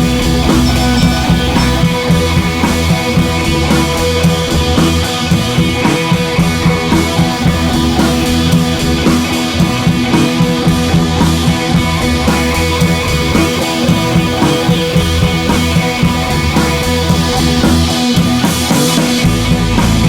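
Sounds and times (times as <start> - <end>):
rock music with drums and guitar: 0.0 - 20.0.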